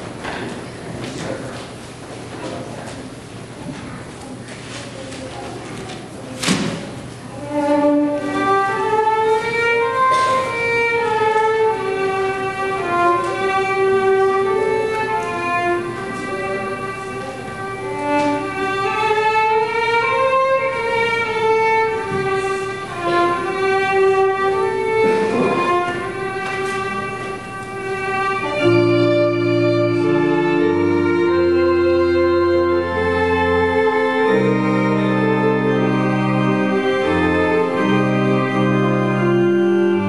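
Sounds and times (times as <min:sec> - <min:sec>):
solo violin melody: 0:07.3 - 0:40.0.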